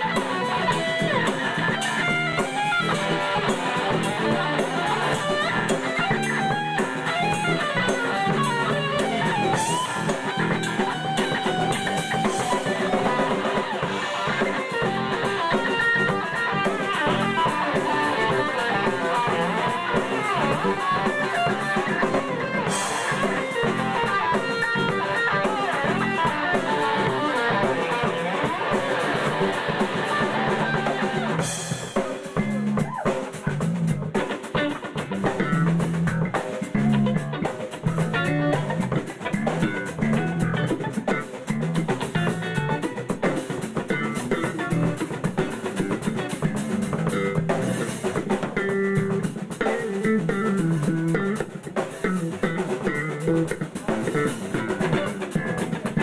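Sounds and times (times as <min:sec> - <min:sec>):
drum kit: 0:00.0 - 0:56.0
electric guitar through amplifier: 0:00.0 - 0:56.0.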